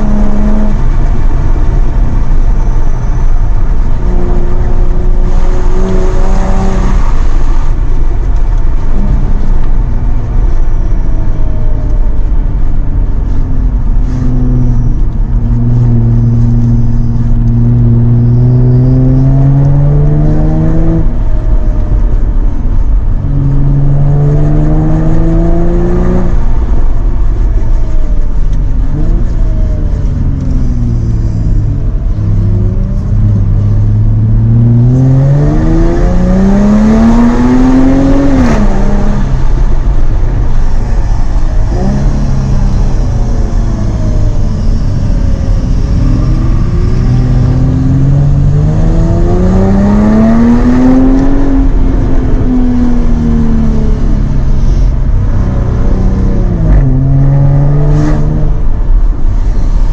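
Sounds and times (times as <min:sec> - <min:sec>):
car engine accelerating: 0:00.0 - 0:59.9
low road rumble: 0:00.0 - 0:59.9.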